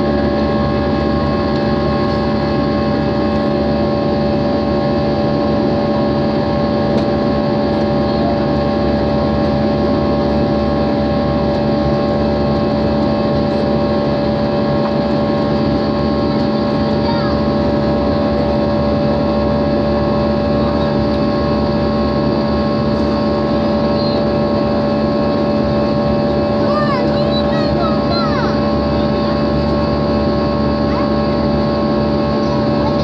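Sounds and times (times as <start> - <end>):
jet cabin engine drone: 0.0 - 33.0.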